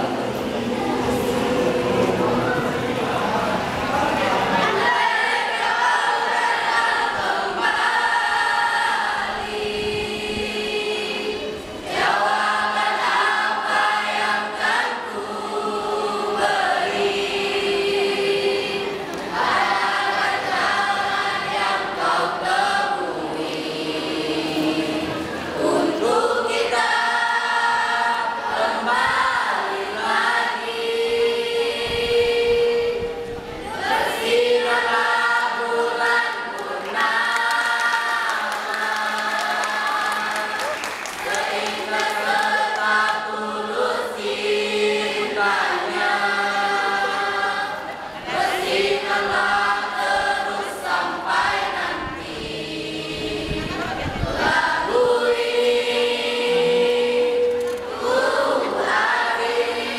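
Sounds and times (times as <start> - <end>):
mixed choir singing in harmony: 0.0 - 59.9.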